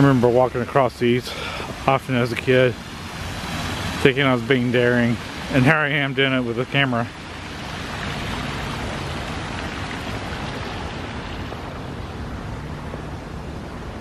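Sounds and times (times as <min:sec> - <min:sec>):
creek water rushing over stones: 0:00.0 - 0:14.0.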